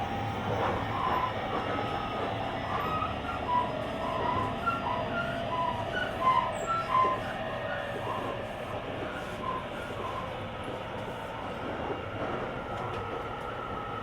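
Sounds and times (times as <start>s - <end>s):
electric train running noise: 0.0s - 14.0s.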